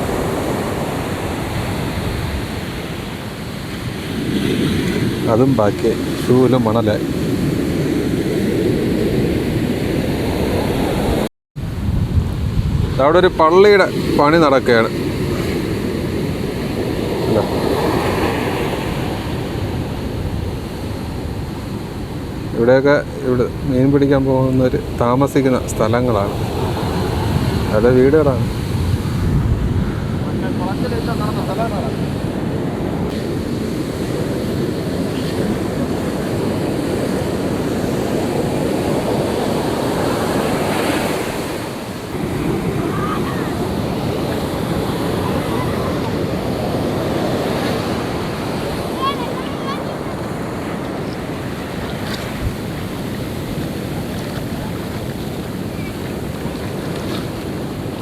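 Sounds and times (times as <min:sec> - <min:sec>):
waves on a sandy beach: 0:00.0 - 0:58.0
wind buffeting microphone: 0:00.0 - 0:58.0.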